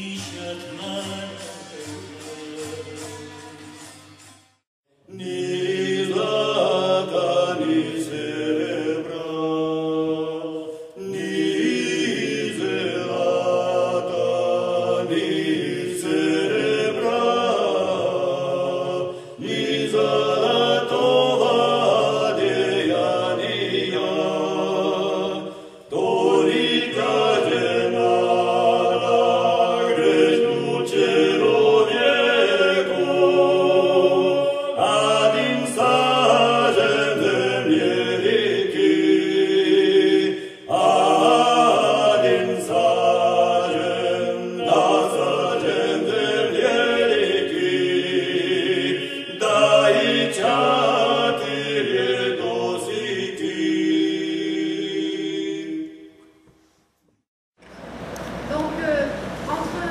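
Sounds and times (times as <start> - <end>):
men singing chant in harmony: 0.0 - 3.1, 5.1 - 56.0.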